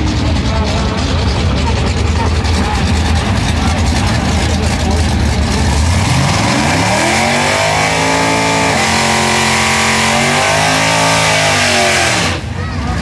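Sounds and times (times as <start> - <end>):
drag racing engine revving: 0.0 - 13.0.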